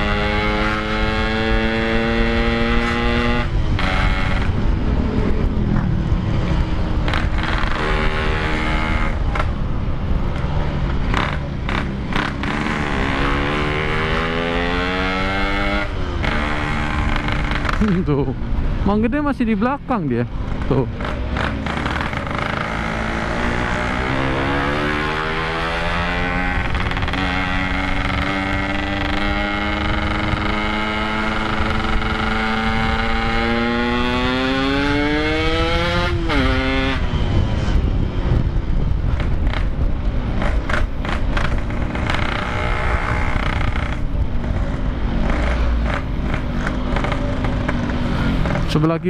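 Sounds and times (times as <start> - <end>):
gusty wind noise: 0.0 - 49.0
motorcycle engine accelerating: 0.0 - 49.0.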